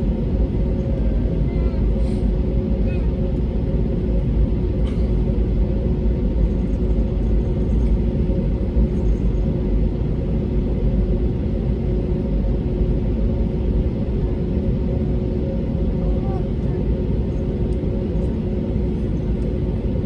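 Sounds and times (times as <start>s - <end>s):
airplane cabin rumble: 0.0s - 20.0s
jet engine hum: 0.0s - 20.0s.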